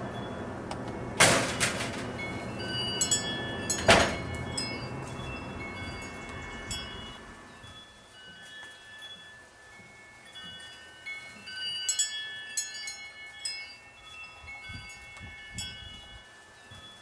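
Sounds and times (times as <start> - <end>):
chimes ringing: 0.0 - 17.0.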